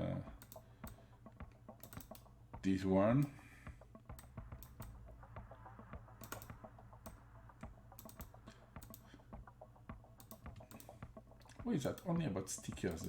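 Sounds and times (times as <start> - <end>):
low steady hum: 0.0 - 13.0
computer keys clicking: 0.3 - 2.4, 3.2 - 5.0, 5.9 - 13.0.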